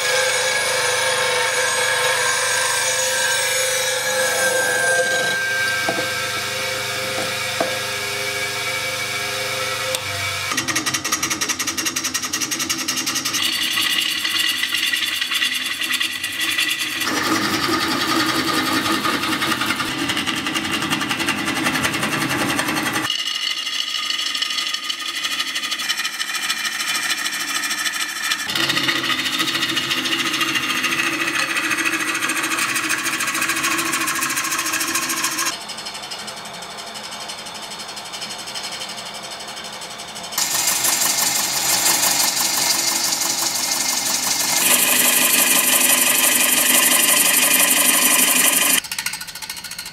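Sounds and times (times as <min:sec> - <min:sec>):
gouge cutting wood on a lathe: 0:00.0 - 0:36.3, 0:40.4 - 0:49.2.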